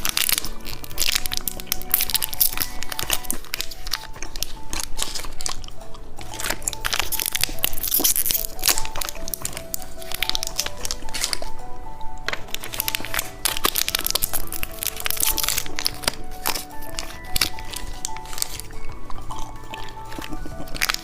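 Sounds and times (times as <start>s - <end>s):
background music: 0.0s - 21.0s
plastic wrappers crinkling: 0.0s - 21.0s.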